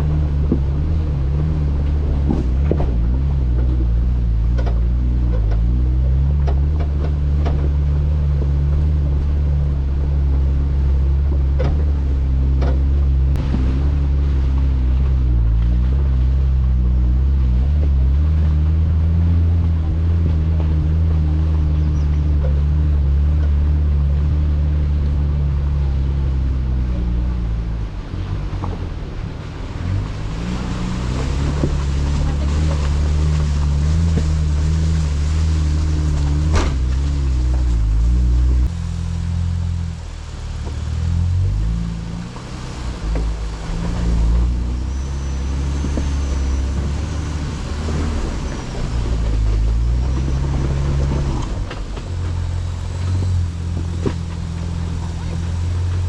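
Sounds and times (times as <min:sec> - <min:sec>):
off-road engine running: 0:00.0 - 0:56.0.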